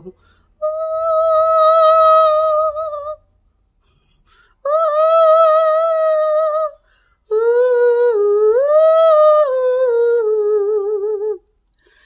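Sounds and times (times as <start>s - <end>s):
woman singing wordless tune: 0.0s - 3.3s, 4.6s - 11.5s.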